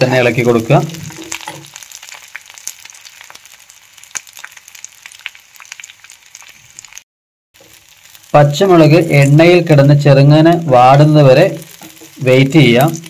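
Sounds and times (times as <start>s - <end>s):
chillies sizzling in oil: 0.0s - 7.0s, 7.6s - 13.0s.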